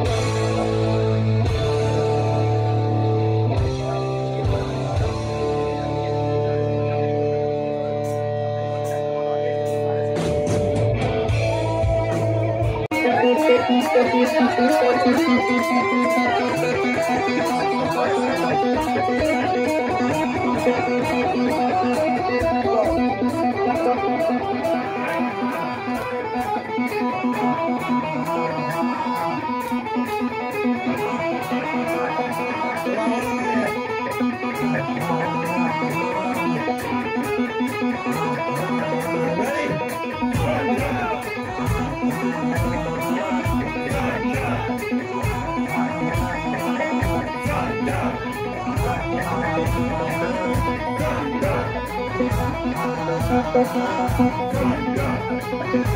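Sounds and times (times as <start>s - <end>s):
electric guitar rock music: 0.0s - 55.9s.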